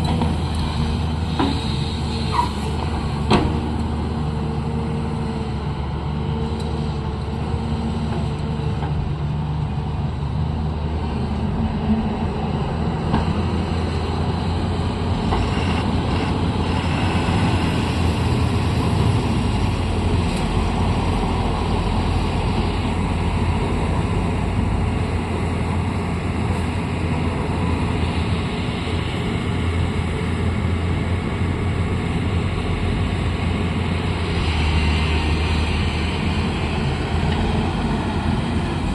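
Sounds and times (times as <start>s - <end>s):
diesel excavator engine rumbling: 0.0s - 38.9s.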